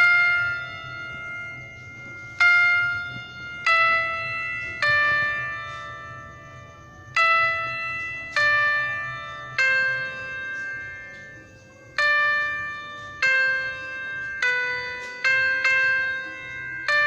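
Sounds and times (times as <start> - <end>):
bell-like chime notes: 0.0 - 17.0.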